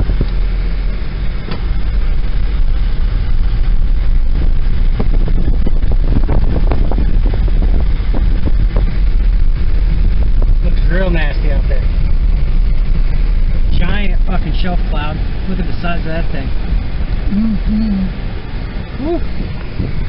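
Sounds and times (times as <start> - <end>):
car road rumble: 0.0 - 20.0
wind gusting on microphone: 0.0 - 20.0.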